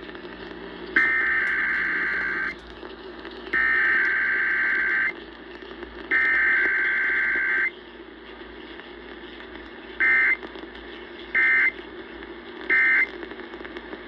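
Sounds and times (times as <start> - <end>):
radio hiss: 0.0 - 14.0.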